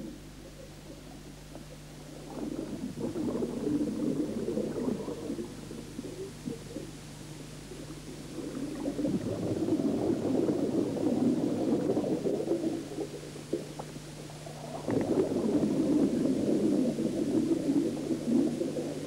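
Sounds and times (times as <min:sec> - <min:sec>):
diver's exhaled air bubbling: 0:02.0 - 0:07.0, 0:07.7 - 0:19.0.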